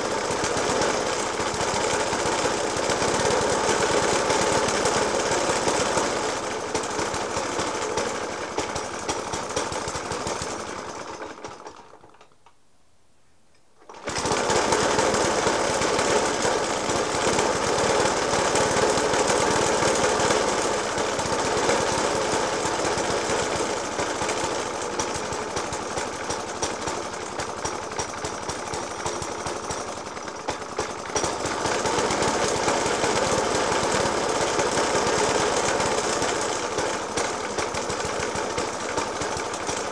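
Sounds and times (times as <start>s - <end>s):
lawnmower engine idling roughly: 0.0s - 12.2s, 13.9s - 39.9s.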